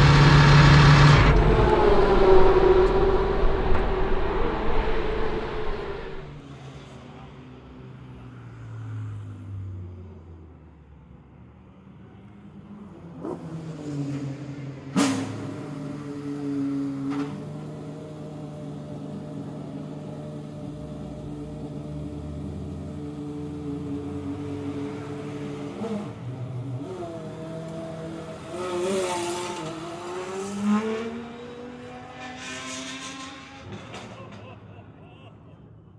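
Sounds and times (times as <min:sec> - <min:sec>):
car engine idling and revving: 0:00.0 - 0:08.0, 0:09.1 - 0:34.1.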